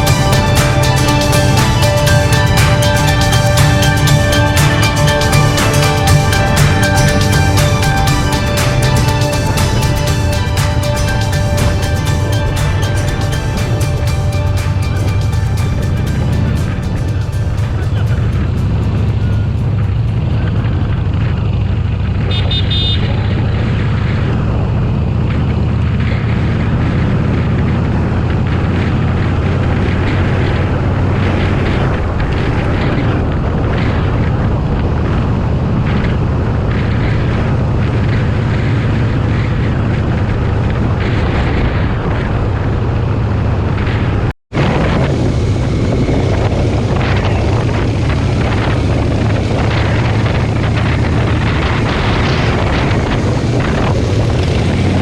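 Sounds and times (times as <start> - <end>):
motorcycle riding: 0.0 - 55.0
wind noise on microphone: 0.0 - 55.0.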